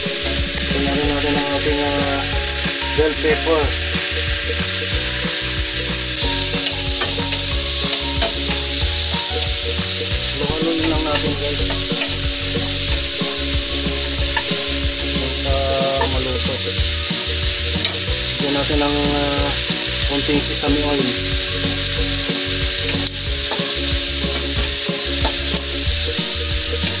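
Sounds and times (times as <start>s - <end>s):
spatula scraping and tapping pan: 0.0s - 27.0s
vegetables sizzling in a wok: 0.0s - 27.0s.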